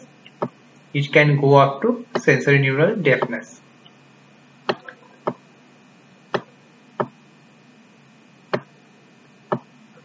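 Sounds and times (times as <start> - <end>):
faint electrical hum with whine: 0.0 - 10.0.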